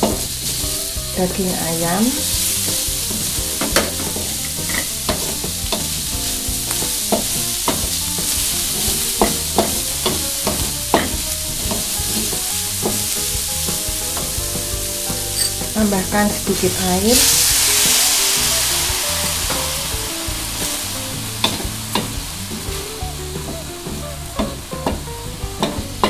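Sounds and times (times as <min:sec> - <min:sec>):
food sizzling in a wok: 0:00.0 - 0:25.8.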